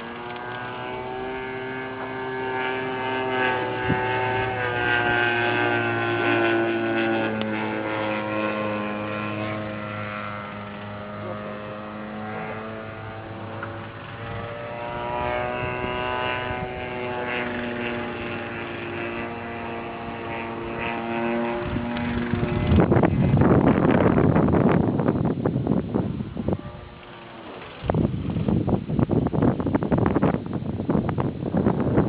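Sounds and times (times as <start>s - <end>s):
model airplane engine buzzing: 0.0s - 32.0s
wind on microphone: 0.0s - 32.0s.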